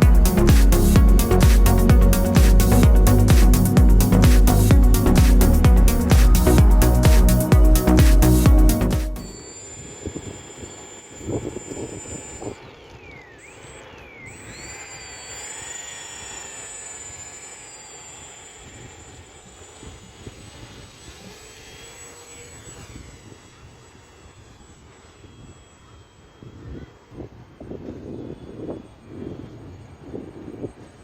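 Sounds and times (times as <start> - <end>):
model airplane motor whining: 0.0 - 31.0.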